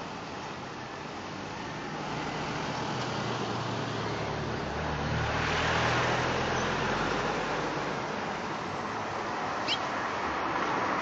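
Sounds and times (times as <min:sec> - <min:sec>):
motor vehicle passing: 0:02.0 - 0:11.0.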